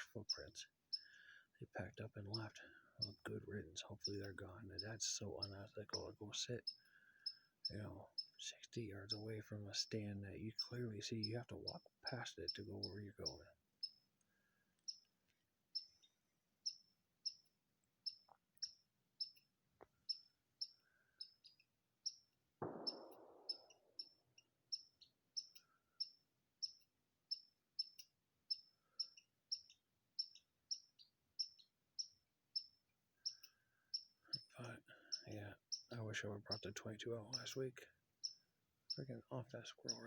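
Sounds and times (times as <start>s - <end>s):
squirrel alarm call chirps: 0.0s - 40.0s.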